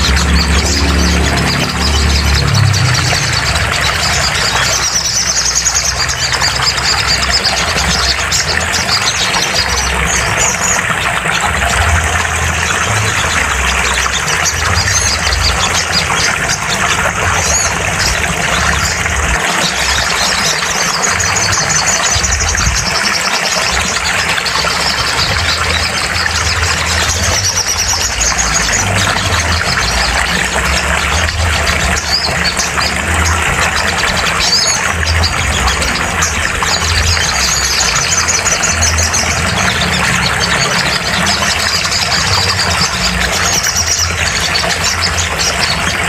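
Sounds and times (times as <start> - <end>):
bird chattering trills: 0.0 - 46.0
low pulsing hum: 0.0 - 46.0
noisy background: 0.0 - 46.0.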